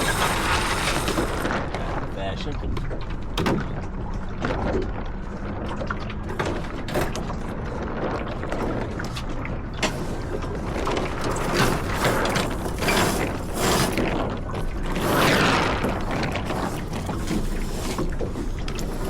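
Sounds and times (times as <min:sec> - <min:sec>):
knocks and clicks from boat gear: 0:00.0 - 0:19.0
water rushing along hull: 0:00.0 - 0:19.0
wind buffeting microphone: 0:00.0 - 0:19.0.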